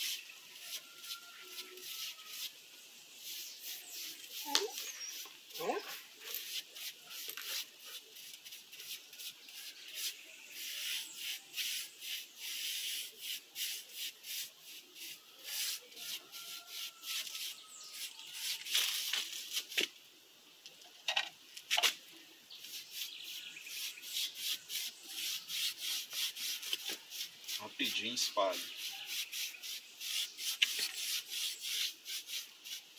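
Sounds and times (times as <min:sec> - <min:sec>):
paintbrush scratchy strokes: 0:00.0 - 0:19.8, 0:22.6 - 0:32.9.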